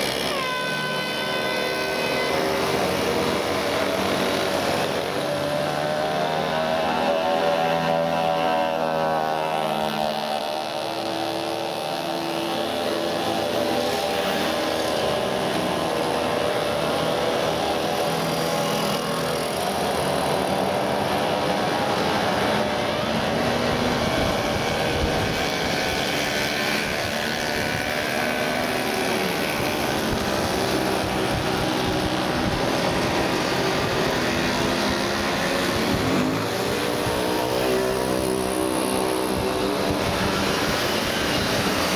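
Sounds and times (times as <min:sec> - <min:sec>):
mopeds buzzing past: 0:00.0 - 0:41.9.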